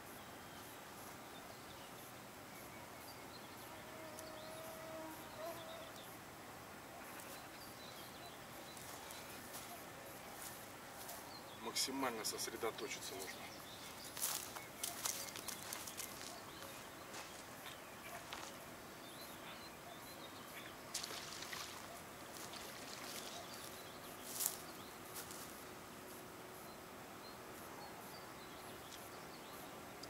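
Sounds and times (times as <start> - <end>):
open air hiss: 0.0 - 30.0.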